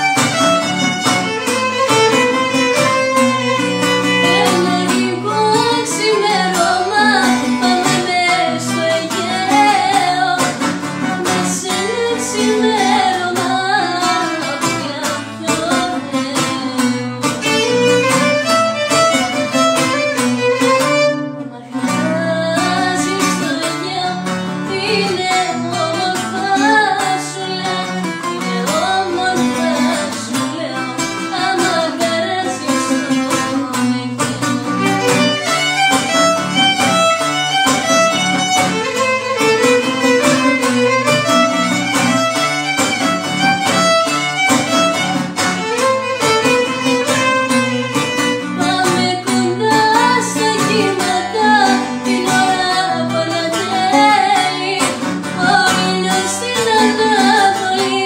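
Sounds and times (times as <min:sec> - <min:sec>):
bowed violin melody: 0:00.0 - 0:58.0
plucked lute: 0:00.0 - 0:58.0.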